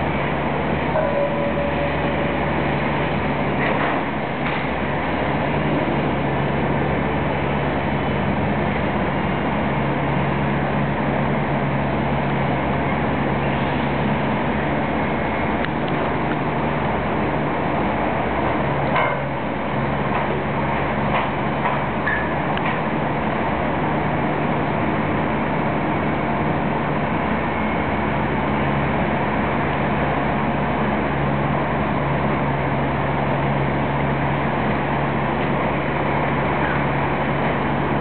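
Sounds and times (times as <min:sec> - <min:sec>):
construction machinery humming: 0:00.0 - 0:38.0.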